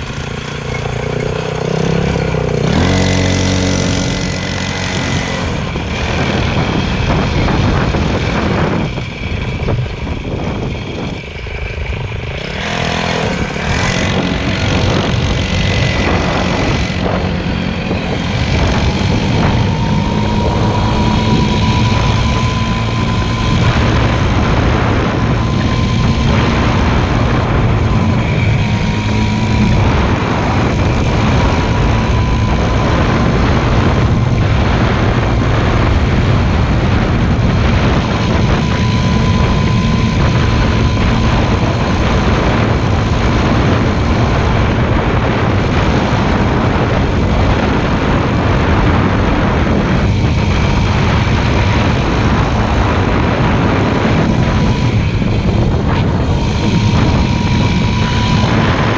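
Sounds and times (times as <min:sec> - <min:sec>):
motorcycle engine drone: 0:00.0 - 0:58.9.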